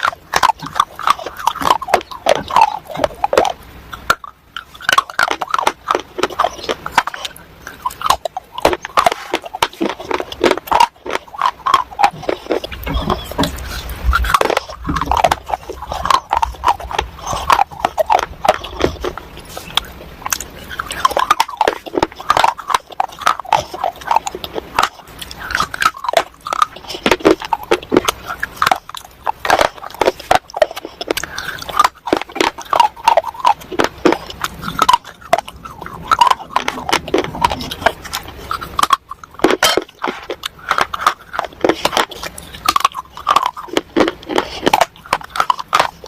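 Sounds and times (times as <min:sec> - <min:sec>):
crunchy chewing: 0:00.0 - 0:46.0.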